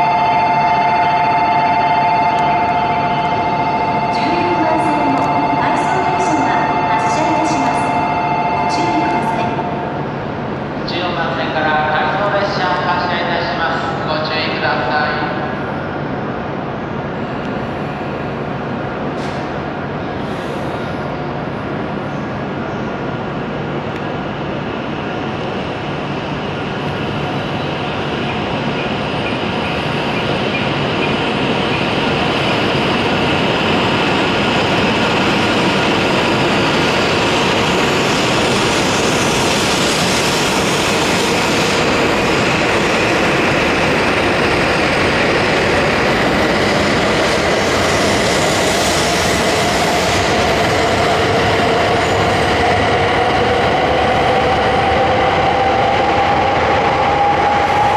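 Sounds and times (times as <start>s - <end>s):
train running noise: 0.0s - 57.9s.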